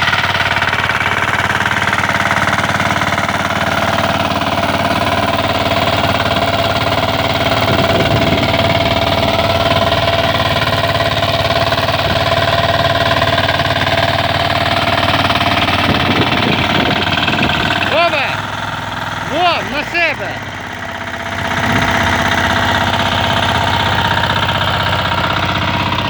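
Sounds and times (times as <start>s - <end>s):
rotary tiller engine running: 0.0s - 26.0s.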